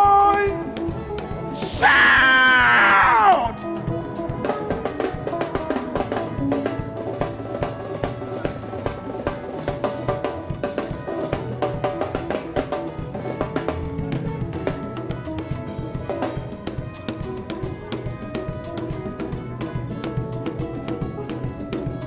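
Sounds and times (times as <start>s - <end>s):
drum kit fast beat: 0.0s - 22.0s
upbeat worship music: 0.0s - 22.0s.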